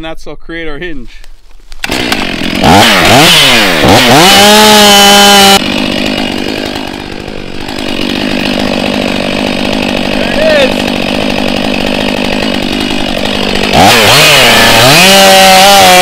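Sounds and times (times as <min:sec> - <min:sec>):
chainsaw cutting into tree trunk: 0:01.8 - 0:16.0
chainsaw revving: 0:01.8 - 0:16.0.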